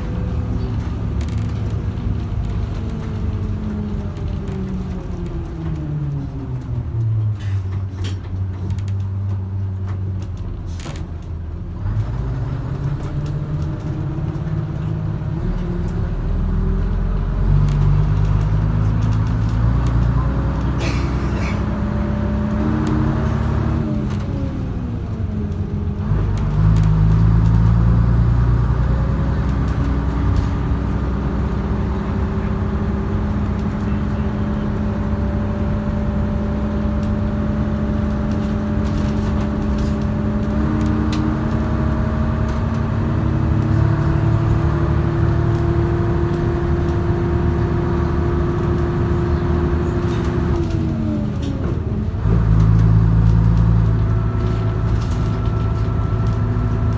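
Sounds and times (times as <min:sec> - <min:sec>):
bus diesel engine: 0:00.0 - 0:56.9.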